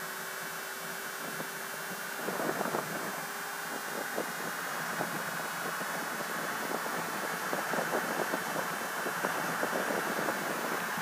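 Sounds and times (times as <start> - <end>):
wind rushing over microphone: 1.2 - 11.0.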